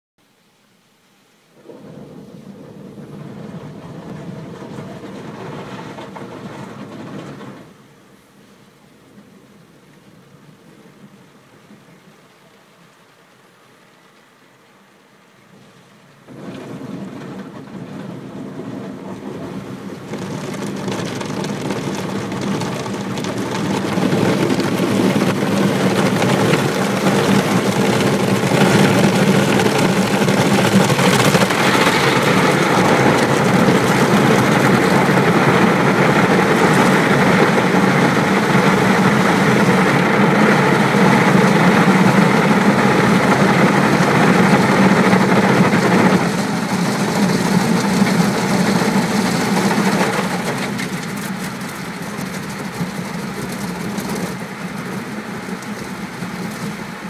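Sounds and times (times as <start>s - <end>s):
car wash motor and fan hum: 0.2s - 57.0s.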